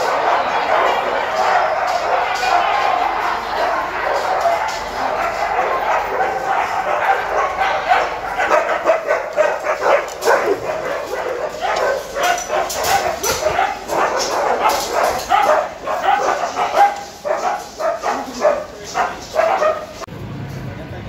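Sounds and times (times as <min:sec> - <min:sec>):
huskies yipping and barking: 0:00.0 - 0:20.1.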